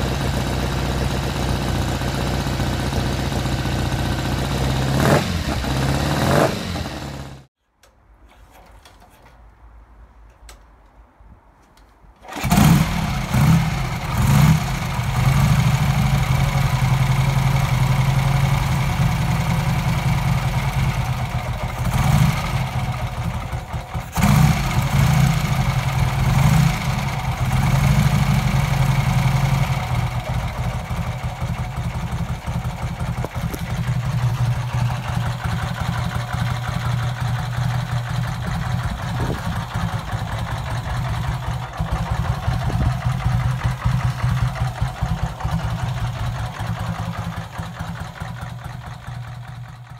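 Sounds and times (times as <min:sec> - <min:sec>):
motorcycle engine revving and idling: 0:00.0 - 0:07.5, 0:12.2 - 0:49.9.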